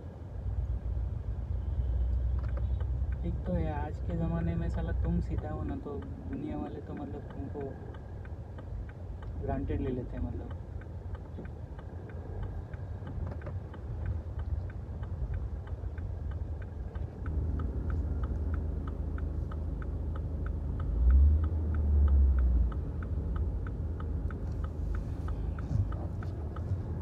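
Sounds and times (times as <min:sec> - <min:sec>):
low engine and road rumble: 0:00.0 - 0:27.0
car indicator clicking: 0:02.2 - 0:27.0.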